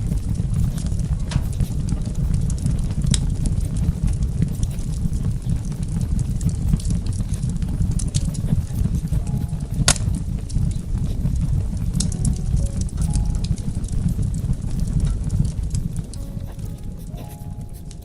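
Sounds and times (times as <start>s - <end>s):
fire crackles: 0.0s - 18.0s
wood fire rumbling: 0.0s - 18.0s.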